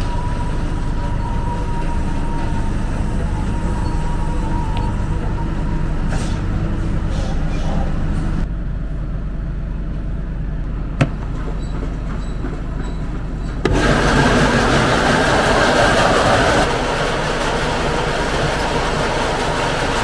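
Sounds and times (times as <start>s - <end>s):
farm machinery engine drone: 0.0s - 12.2s, 12.8s - 20.0s.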